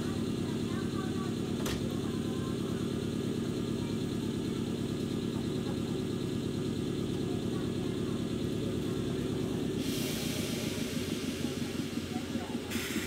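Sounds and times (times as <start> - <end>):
low hum of train equipment: 0.0 - 13.0.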